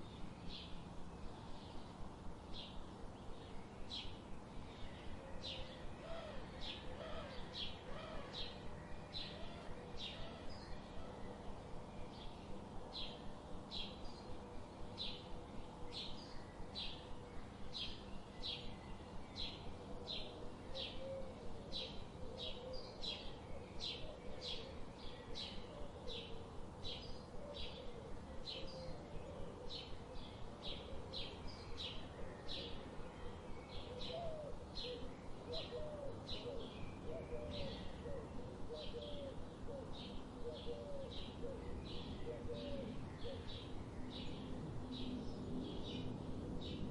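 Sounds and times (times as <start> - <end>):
faint background hiss: 0.0 - 46.9.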